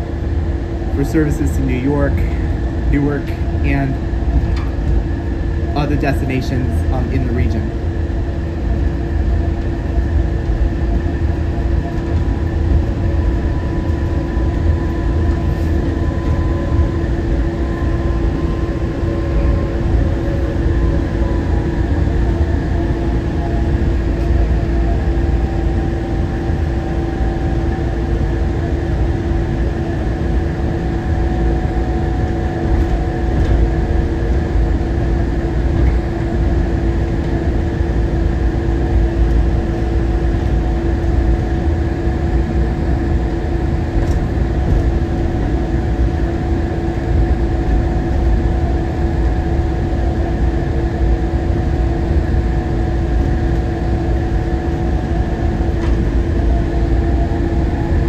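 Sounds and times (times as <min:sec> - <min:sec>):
train rumbling and rushing: 0:00.0 - 0:48.5, 0:53.1 - 0:58.0
drive motor whine: 0:00.0 - 0:58.0.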